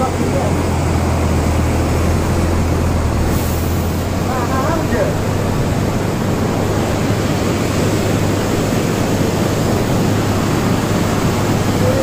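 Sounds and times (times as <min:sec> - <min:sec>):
river roaring in flood: 0:00.0 - 0:12.0.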